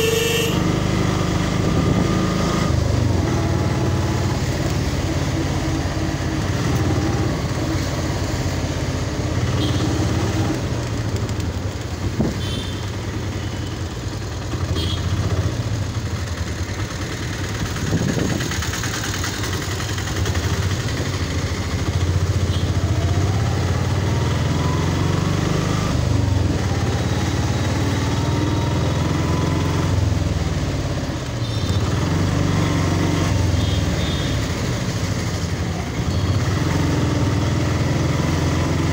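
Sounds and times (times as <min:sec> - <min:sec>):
road noise: 0:00.0 - 0:38.9
small vehicle engine running: 0:00.0 - 0:38.9.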